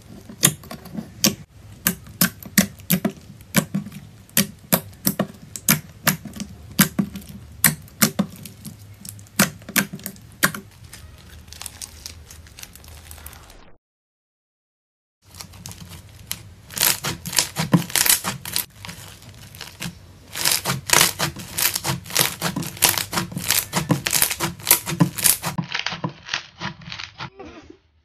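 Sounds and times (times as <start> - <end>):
slime crackling and popping: 1.2 - 13.6, 15.3 - 27.3.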